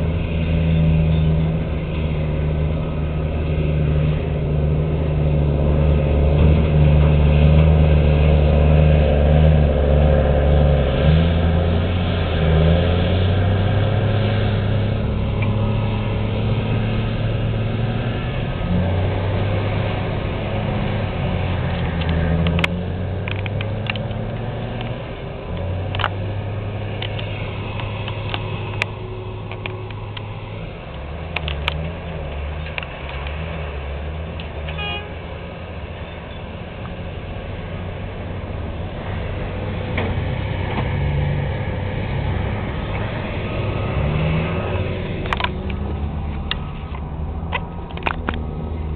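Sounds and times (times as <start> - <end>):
excavator diesel engine under load: 0.0 - 48.9.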